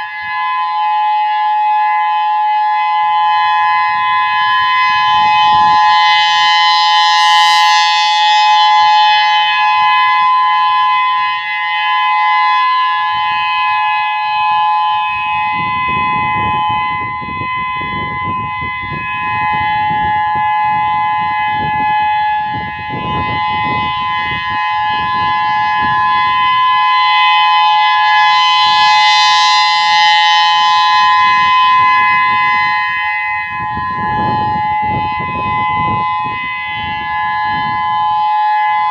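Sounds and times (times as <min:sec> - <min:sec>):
two-note warning siren: 0:00.0 - 0:38.9.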